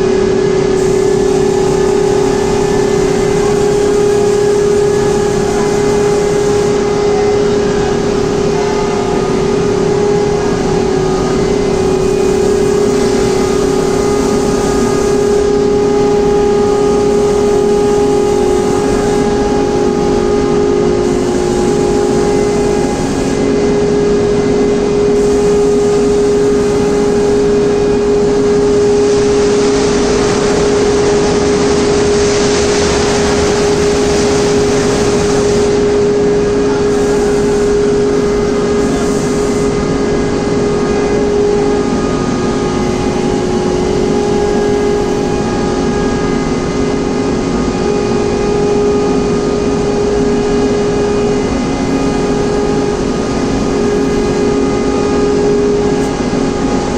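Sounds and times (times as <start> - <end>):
rushing noise: 0.0 - 49.0
loud industrial hum: 0.0 - 56.9.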